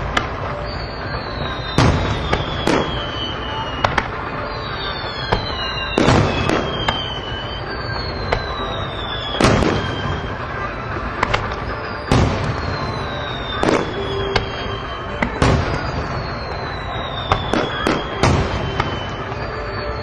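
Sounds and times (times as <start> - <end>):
falling firework whistle: 0.0 - 20.0
fireworks bursting: 0.0 - 20.0
noisy background: 0.0 - 20.0.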